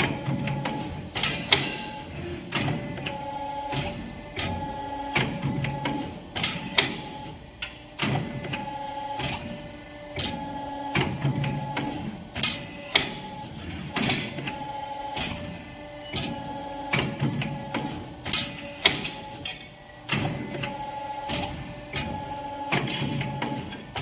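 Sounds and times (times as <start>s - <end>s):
sharp mechanical clacks: 0.0s - 24.0s.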